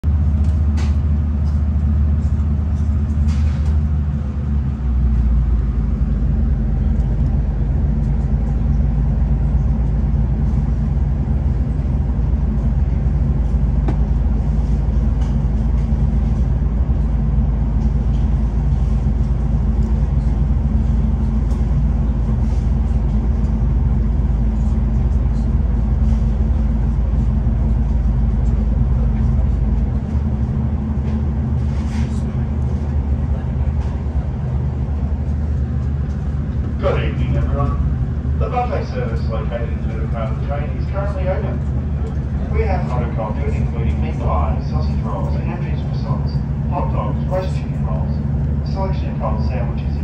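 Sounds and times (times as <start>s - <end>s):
train rumble inside carriage: 0.0s - 50.0s.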